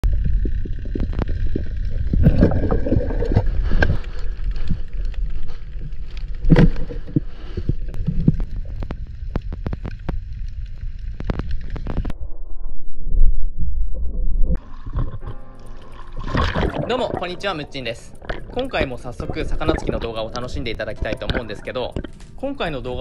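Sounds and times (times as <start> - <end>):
underwater clicks and crackles: 0.0 - 12.2, 14.0 - 23.0
underwater rumble of moving water: 0.0 - 23.0.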